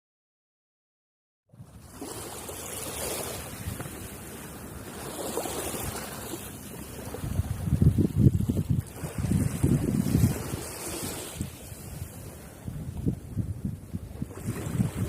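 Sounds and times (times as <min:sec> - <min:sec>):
wind on microphone: 0:01.5 - 0:15.0
sea waves washing ashore: 0:01.6 - 0:15.0.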